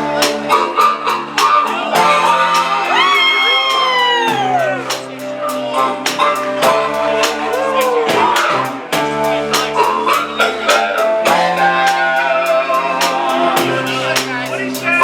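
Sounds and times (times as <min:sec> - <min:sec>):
bass guitar: 0:00.0 - 0:15.0
drums: 0:00.0 - 0:15.0
guitar with bending notes: 0:00.0 - 0:15.0.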